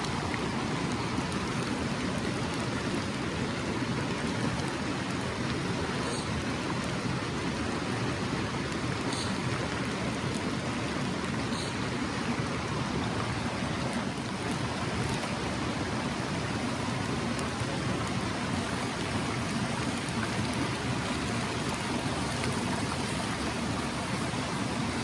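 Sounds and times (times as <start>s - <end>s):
stream rushing: 0.0s - 25.0s.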